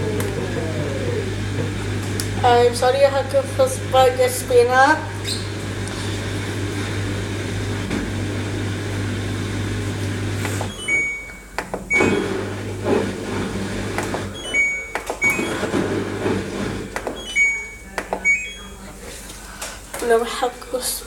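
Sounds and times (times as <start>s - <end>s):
washing machine motor humming: 0.0s - 18.8s.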